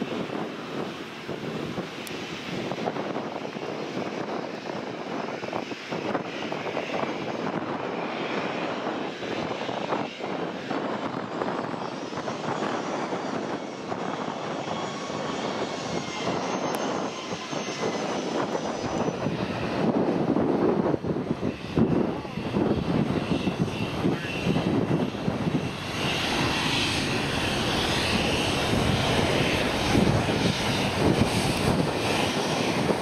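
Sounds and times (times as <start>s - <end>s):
high turbine whine: 0.0s - 33.0s
jet engines rushing: 0.0s - 33.0s
wind buffeting microphone: 0.0s - 33.0s.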